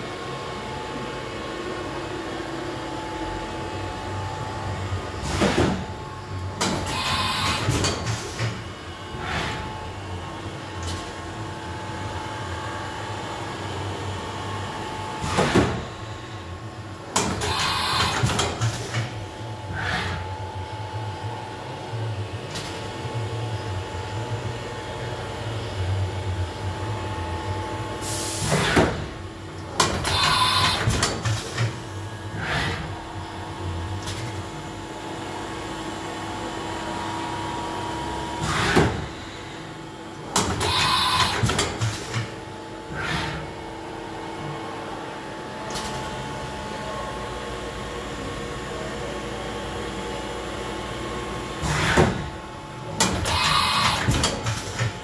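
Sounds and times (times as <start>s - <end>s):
machine humming with constant tones: 0.0s - 55.0s.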